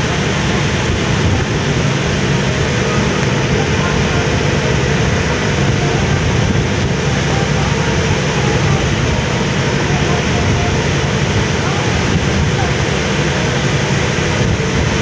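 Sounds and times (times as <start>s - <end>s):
ship engine drone: 0.0s - 15.0s
wind buffeting microphone: 0.0s - 15.0s.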